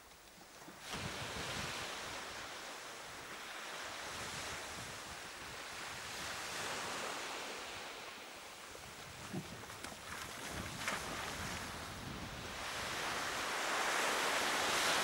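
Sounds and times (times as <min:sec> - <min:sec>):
small waves washing onto sand: 0:00.5 - 0:15.0
wind on microphone: 0:00.7 - 0:07.9, 0:08.7 - 0:15.0.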